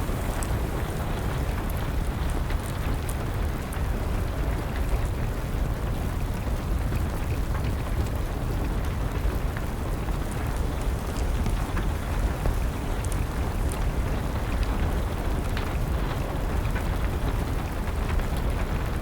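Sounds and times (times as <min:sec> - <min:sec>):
steady rain: 0:00.0 - 0:19.0
wood fire crackling: 0:00.0 - 0:19.0.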